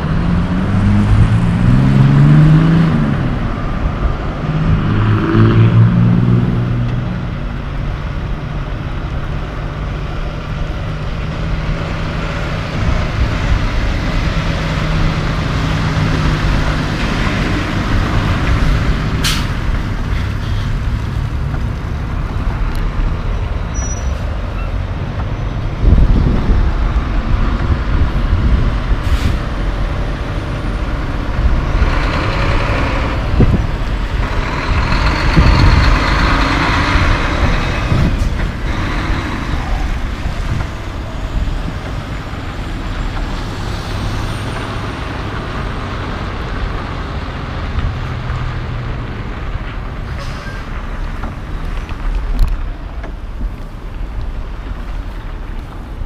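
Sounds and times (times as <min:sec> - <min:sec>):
diesel trucks rumbling: 0:00.0 - 0:56.0.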